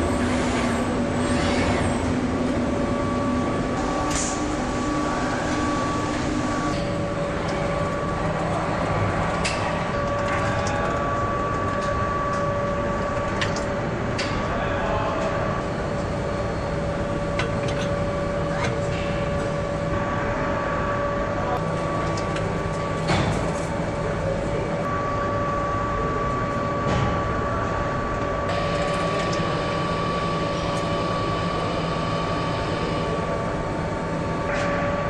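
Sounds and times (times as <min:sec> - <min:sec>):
machinery humming: 0:00.0 - 0:35.0
steady machine tones: 0:00.0 - 0:35.0.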